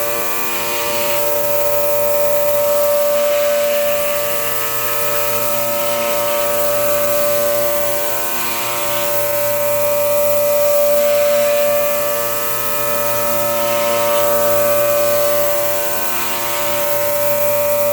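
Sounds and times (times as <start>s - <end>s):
milling machine whine: 0.0s - 17.9s.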